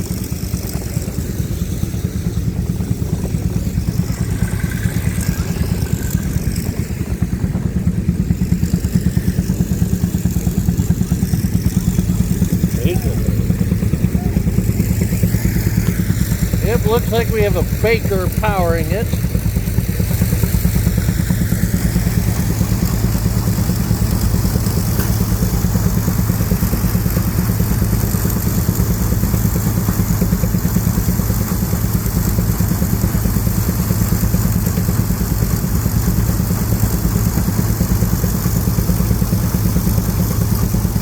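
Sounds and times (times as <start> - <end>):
threshing machine rumbling: 0.0 - 41.0.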